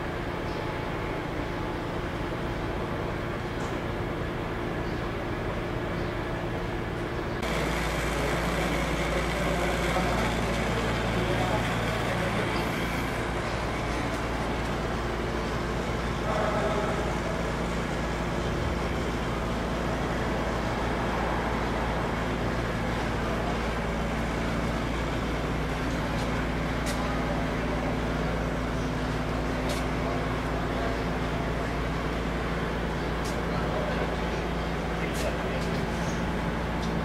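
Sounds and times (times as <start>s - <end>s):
engine lathe running: 0.0s - 37.0s.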